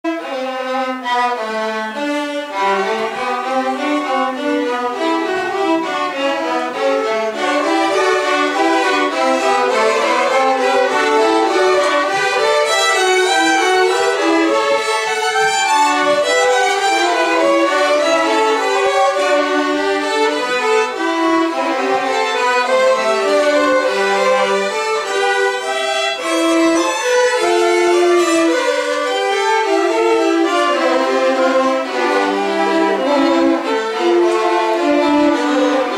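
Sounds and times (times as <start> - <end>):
violin ensemble playing: 0.0 - 35.9.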